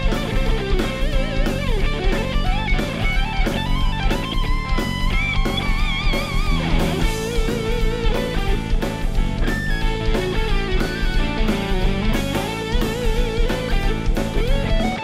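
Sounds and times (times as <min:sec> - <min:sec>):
electric guitar bending notes: 0:00.0 - 0:15.0
steady drum beat: 0:00.0 - 0:15.0.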